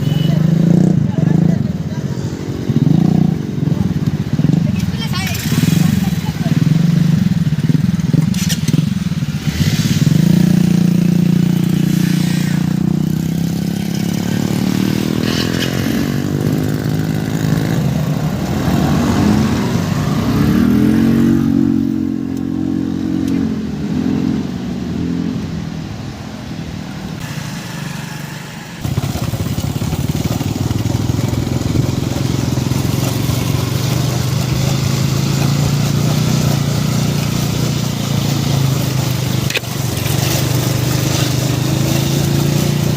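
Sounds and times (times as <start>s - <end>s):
motorcycle engine running: 0.0s - 23.5s, 27.2s - 42.9s.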